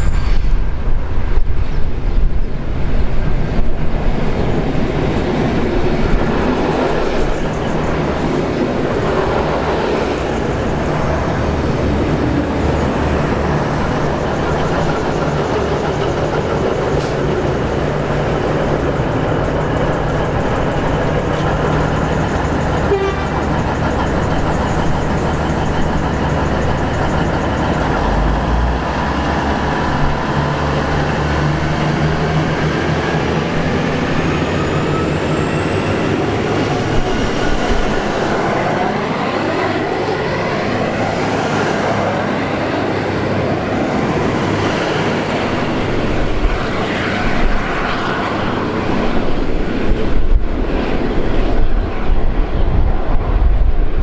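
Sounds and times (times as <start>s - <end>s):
diesel train engine drone: 0.0s - 54.0s.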